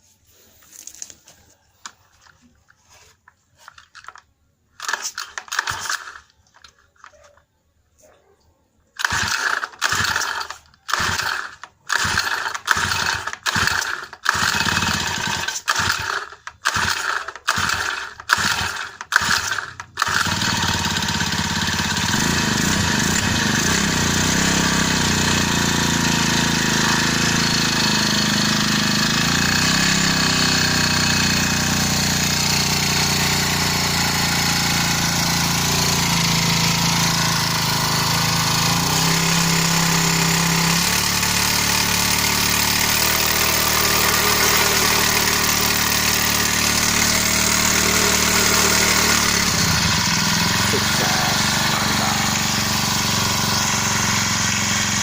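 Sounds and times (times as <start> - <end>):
recoil starter pulls: 0.7 - 7.5, 9.0 - 55.0
brush cutter engine running: 4.8 - 7.3, 9.0 - 55.0.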